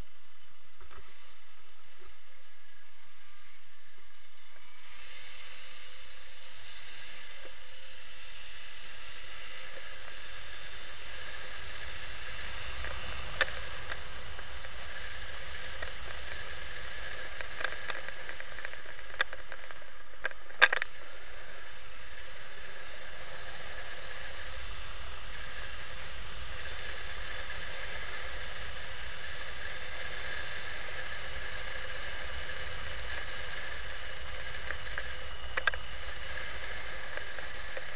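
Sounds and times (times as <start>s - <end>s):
motorcycle riding: 0.0s - 37.9s.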